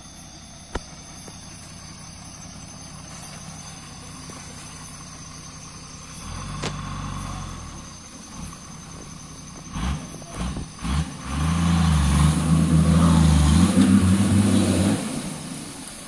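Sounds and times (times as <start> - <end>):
off-road vehicle engine idling: 0.0 - 16.0.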